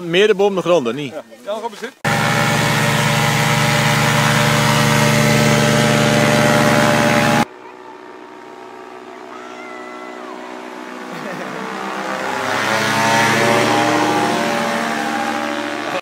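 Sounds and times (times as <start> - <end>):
engine and propeller running loud: 2.1 - 16.0
faint engine hum: 2.1 - 16.0.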